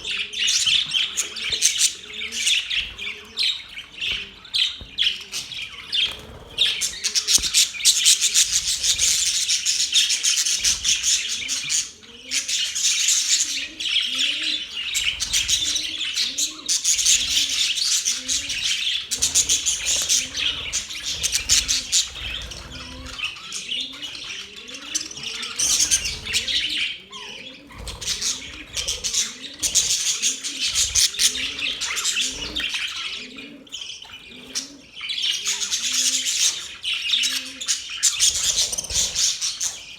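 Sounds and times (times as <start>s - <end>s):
budgies chattering and warbling: 0.0s - 39.9s.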